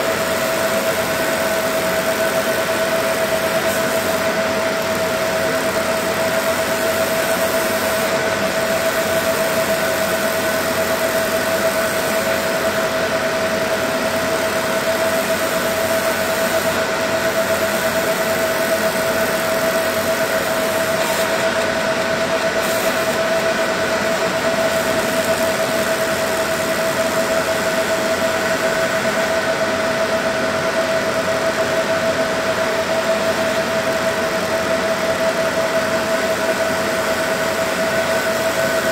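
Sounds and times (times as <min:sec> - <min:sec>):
laser engraver humming and whining: 0:00.0 - 0:38.9.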